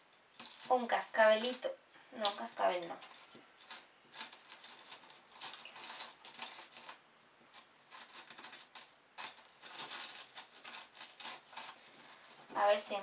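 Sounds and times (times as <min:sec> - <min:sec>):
metal charms rattling in a tin: 0:00.4 - 0:01.6, 0:02.2 - 0:13.0.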